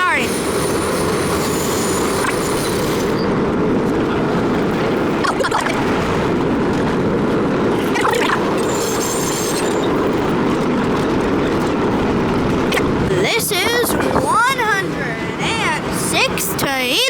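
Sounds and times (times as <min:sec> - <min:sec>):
subway car wheels rumbling: 0:00.0 - 0:17.0.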